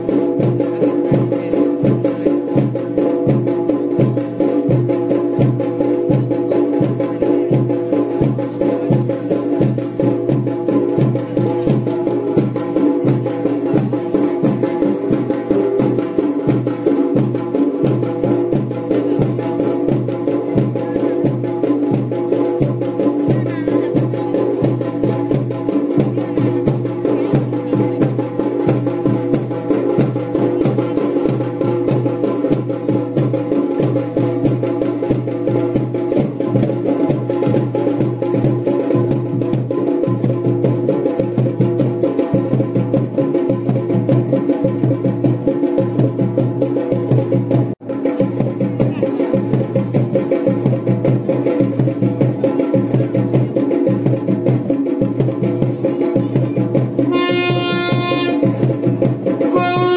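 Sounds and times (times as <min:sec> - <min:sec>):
folk drumming: 0:00.0 - 0:59.9.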